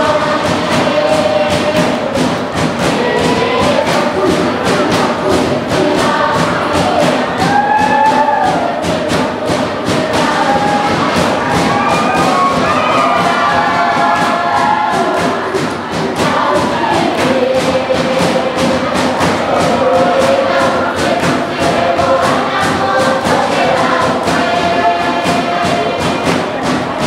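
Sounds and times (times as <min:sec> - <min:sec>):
fast percussive beat: 0:00.0 - 0:27.0
women singing in chorus: 0:00.0 - 0:27.0.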